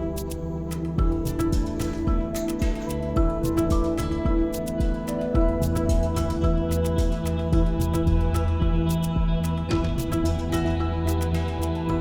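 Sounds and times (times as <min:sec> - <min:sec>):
soft new-age instrumental music: 0:00.0 - 0:12.0.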